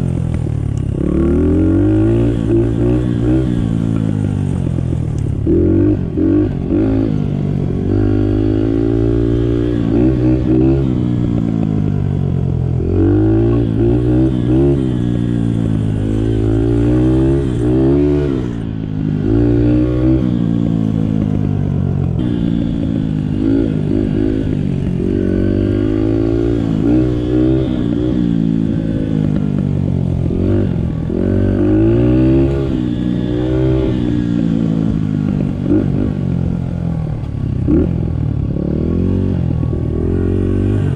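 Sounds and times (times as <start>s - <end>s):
dirt bike engine revving: 0.8s - 36.2s.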